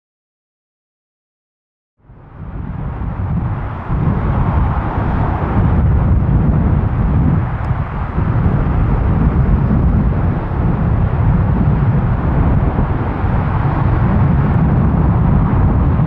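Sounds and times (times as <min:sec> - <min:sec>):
jet engines roaring: 0:02.2 - 0:16.0.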